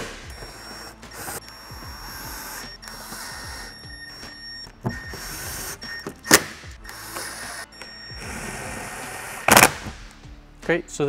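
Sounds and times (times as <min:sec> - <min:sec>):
cordless drill driving screws: 0:00.0 - 0:09.8.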